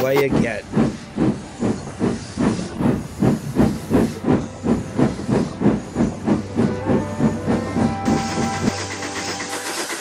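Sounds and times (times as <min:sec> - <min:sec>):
steam hissing: 0:00.0 - 0:06.6, 0:08.1 - 0:10.0
steam locomotive chuffing: 0:00.0 - 0:10.0.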